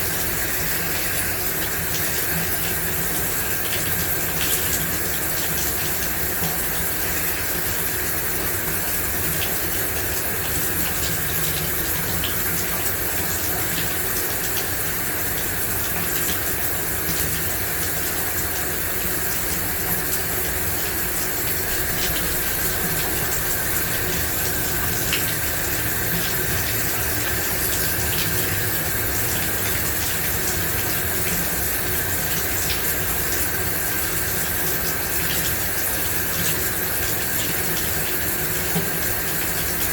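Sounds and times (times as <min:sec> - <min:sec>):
shower water spraying: 0:00.0 - 0:39.9
small drips and ticks: 0:00.0 - 0:39.9.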